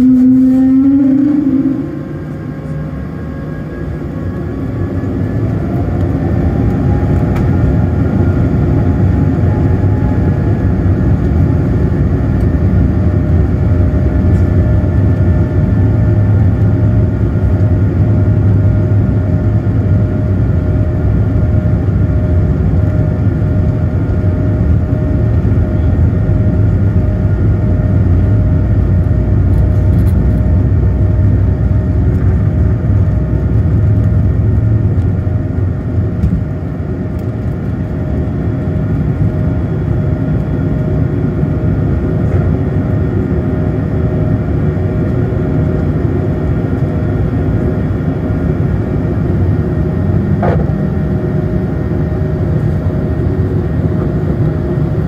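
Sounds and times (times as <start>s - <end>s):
jet engines rumbling and whining: 0.0s - 55.0s
landing gear rumbling over runway: 0.0s - 55.0s.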